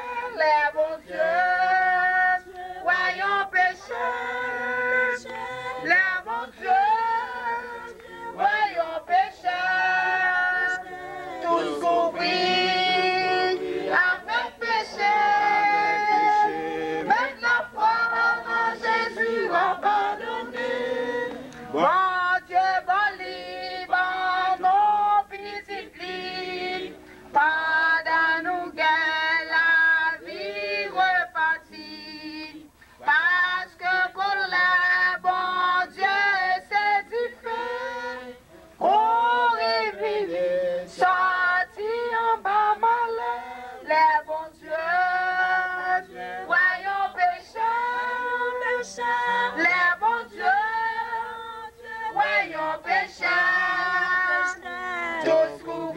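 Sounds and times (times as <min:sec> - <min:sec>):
group singing a hymn: 0:00.0 - 0:55.9.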